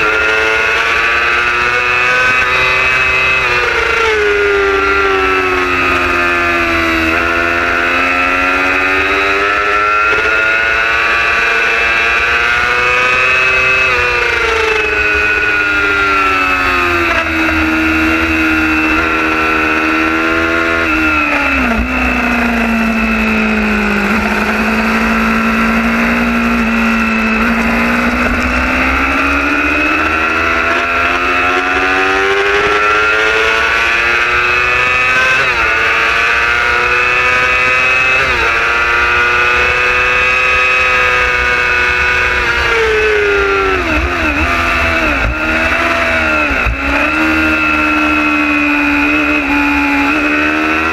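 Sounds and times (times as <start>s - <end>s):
racing motorcycle engine: 0.0s - 50.9s.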